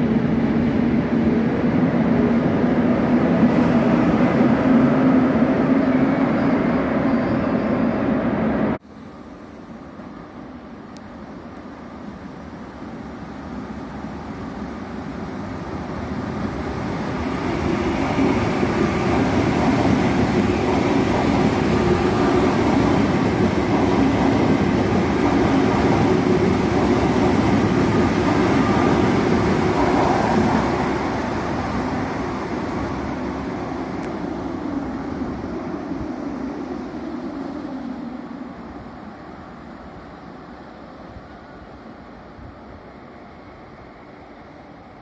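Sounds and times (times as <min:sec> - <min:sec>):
high-speed train passing: 0:00.0 - 0:45.0.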